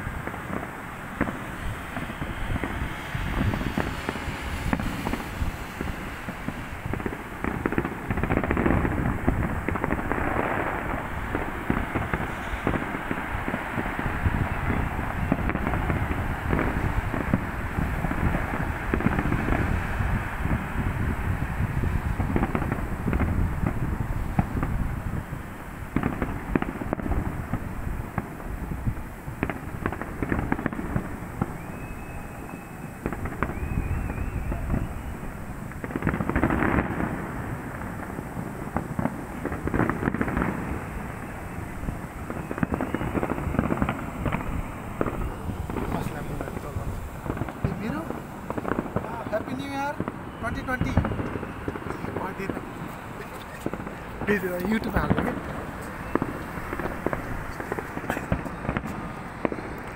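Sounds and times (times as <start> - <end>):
fireworks booms and crackles: 0.0 - 59.9.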